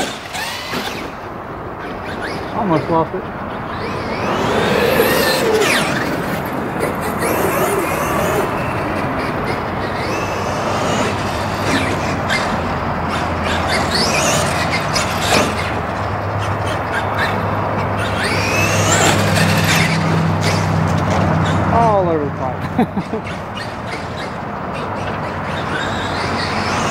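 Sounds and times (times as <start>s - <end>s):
electric rc car motor whine: 0.0s - 1.2s, 1.8s - 2.6s, 3.6s - 21.6s, 23.0s - 26.9s
steady rushing noise: 0.0s - 26.9s.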